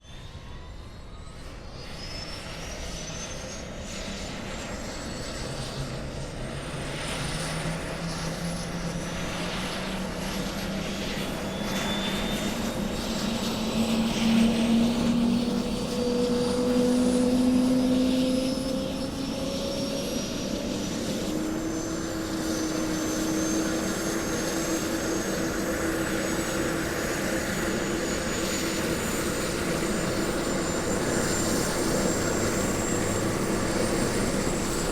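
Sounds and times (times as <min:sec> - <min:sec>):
helicopter engine starting up: 0:01.8 - 0:34.9.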